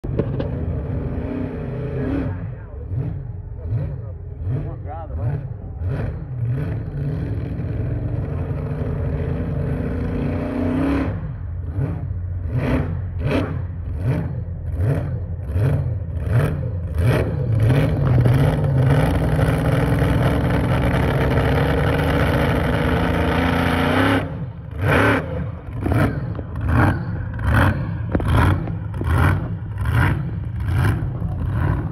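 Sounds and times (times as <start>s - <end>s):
engine throttle blips: 0.0s - 31.9s
tractor engine revving: 0.0s - 31.9s.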